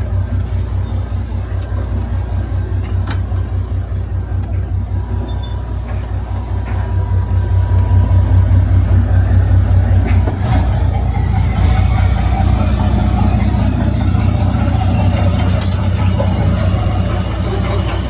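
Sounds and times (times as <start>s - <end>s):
road noise: 0.0s - 17.2s
vehicle engine rumble: 0.0s - 17.4s.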